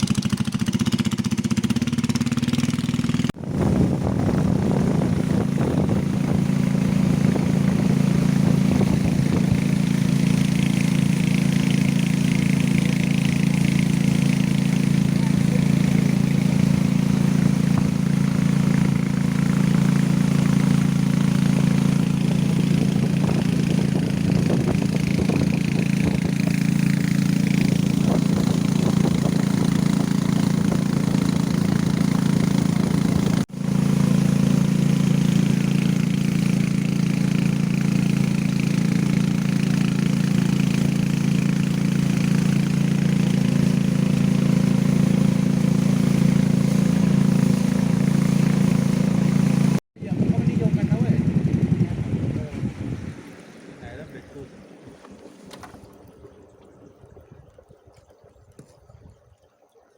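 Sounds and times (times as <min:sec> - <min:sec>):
motorcycle engine running: 0:00.0 - 0:53.2.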